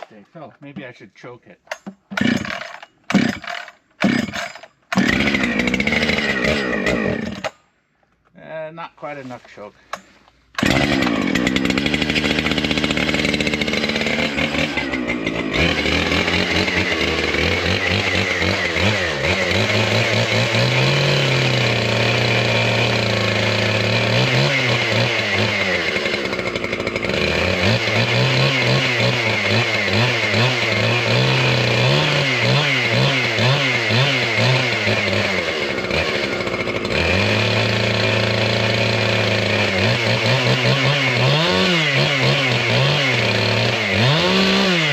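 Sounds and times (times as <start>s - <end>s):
chainsaw engine revving: 0.0s - 0.2s, 1.7s - 7.6s, 9.9s - 44.9s.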